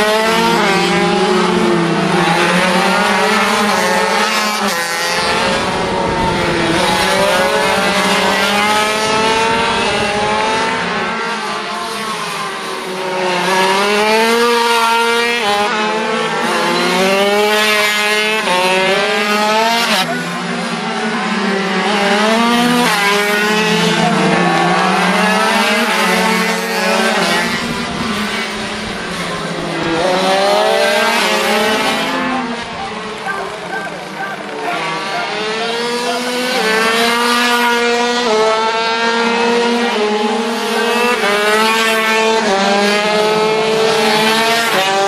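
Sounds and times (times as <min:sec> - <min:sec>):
racing motorcycles revving: 0:00.0 - 0:45.0.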